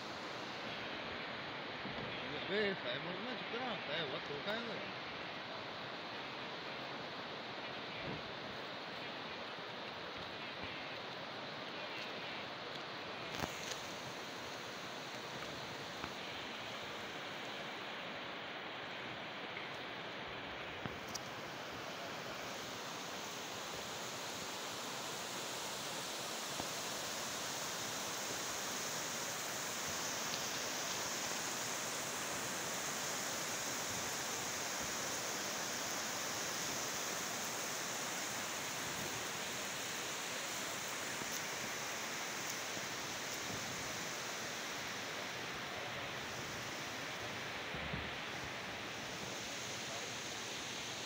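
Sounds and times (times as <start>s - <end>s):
surf hissing on sandy beach: 0.0s - 51.0s.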